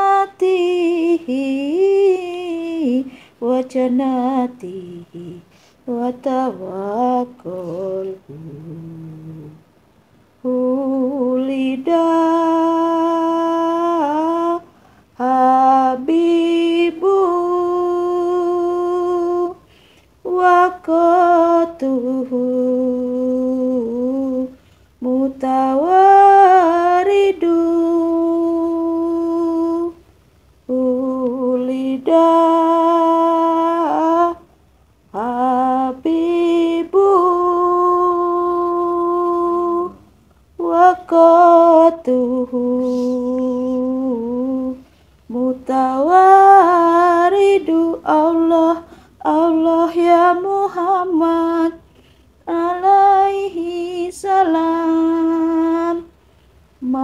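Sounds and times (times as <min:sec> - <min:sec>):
woman singing devotional chant: 0:00.0 - 0:57.0.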